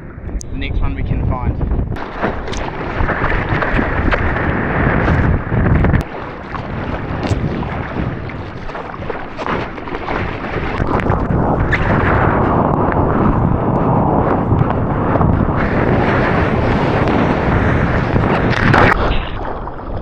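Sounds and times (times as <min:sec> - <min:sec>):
wind buffeting microphone: 0:00.0 - 0:20.0
ocean water rushing: 0:02.0 - 0:20.0.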